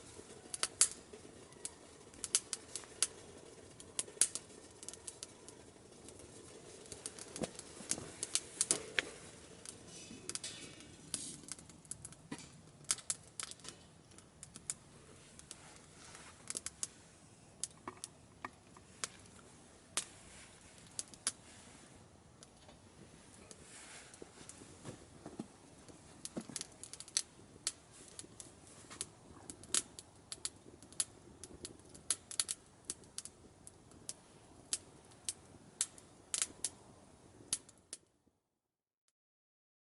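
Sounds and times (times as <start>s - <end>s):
faint hiss: 0.0s - 37.8s
wood fire crackling: 0.0s - 38.4s.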